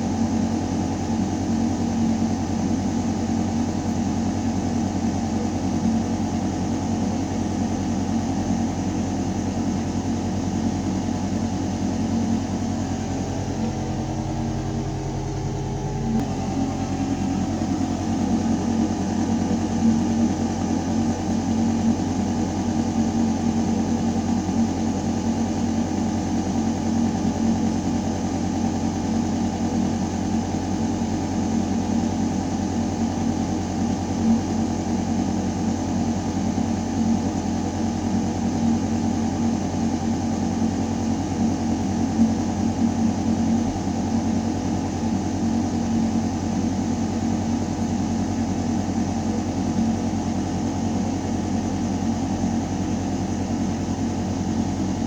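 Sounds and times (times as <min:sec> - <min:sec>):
ventilation mechanical hum: 0:00.0 - 0:55.0.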